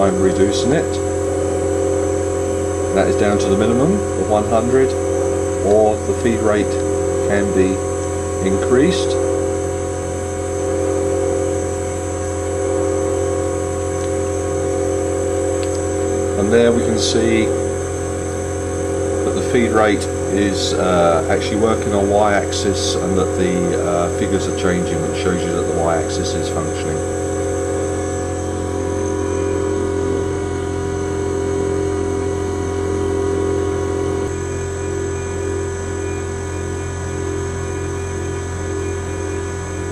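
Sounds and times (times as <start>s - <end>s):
milling machine motor hum: 0.0s - 39.9s.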